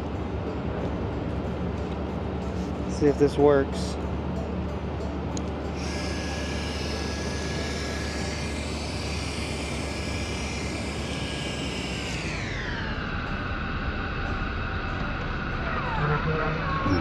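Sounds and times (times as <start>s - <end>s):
electric motor high whine: 0.0s - 17.0s.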